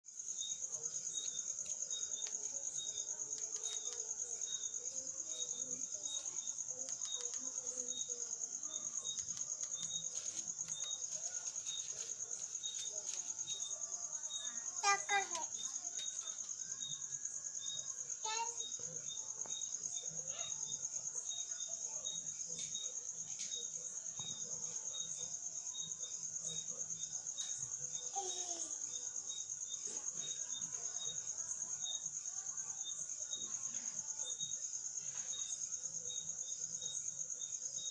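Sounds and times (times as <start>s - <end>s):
cricket trilling: 0.1s - 37.9s
lower insect chirps: 0.1s - 37.9s.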